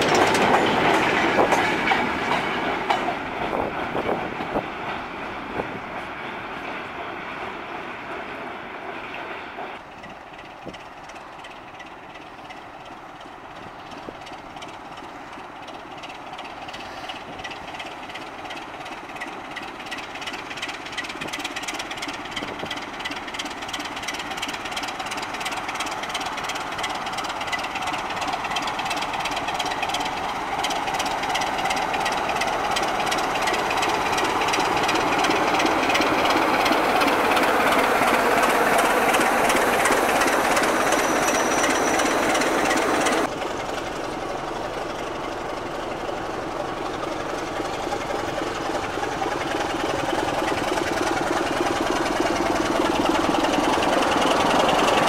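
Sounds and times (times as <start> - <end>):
diesel locomotive engine beating: 0.0 - 55.0.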